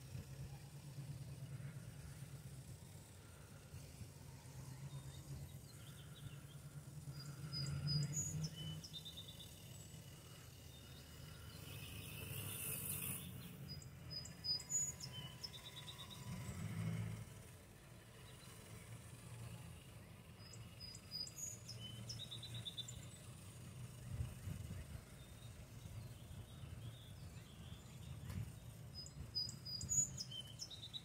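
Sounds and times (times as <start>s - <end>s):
faint low hum of toy truck: 0.0s - 31.0s
small birds chirping: 0.0s - 31.0s.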